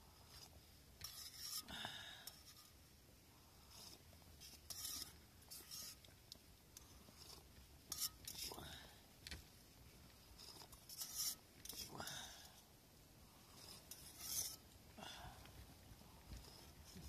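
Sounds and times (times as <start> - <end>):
quiet breathing: 0.0 - 6.0, 6.7 - 9.4, 10.0 - 17.0.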